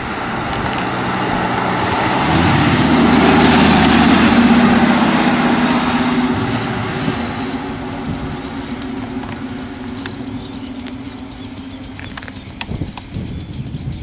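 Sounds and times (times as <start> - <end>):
sports car engine driving by: 0.0 - 13.8.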